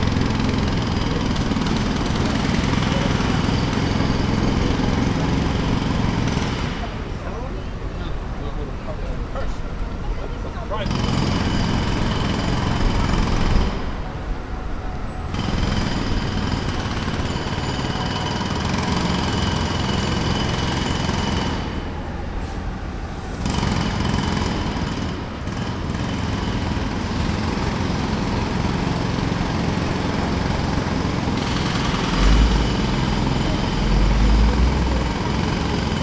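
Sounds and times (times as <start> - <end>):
jackhammer hammering: 0.0 - 7.4, 10.8 - 14.0, 15.3 - 22.2, 23.4 - 36.0.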